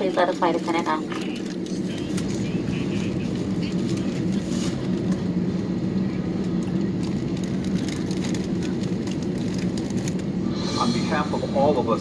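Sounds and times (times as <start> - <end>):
cabin ventilation drone: 0.0 - 12.0.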